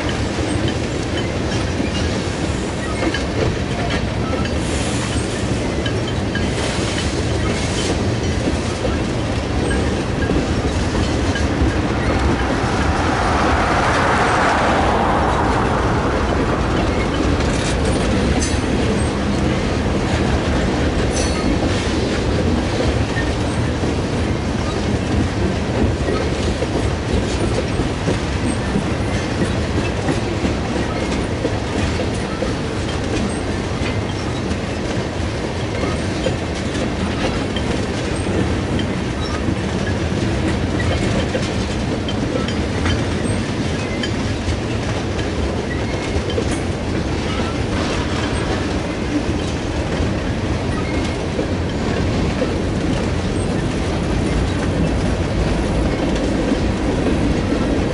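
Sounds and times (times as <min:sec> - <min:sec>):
clickety-clack over rail joints: 0:00.0 - 0:57.9
train wheels rumbling on rail: 0:00.0 - 0:57.9.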